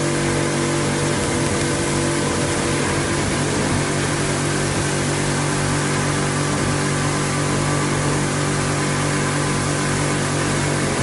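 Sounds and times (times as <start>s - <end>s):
high-pressure pump humming: 0.0s - 11.0s
water jet hissing: 0.0s - 11.0s.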